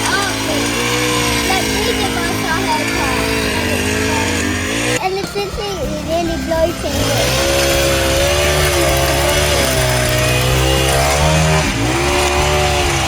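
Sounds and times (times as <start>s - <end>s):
toy power tool buzzing: 0.0s - 13.0s.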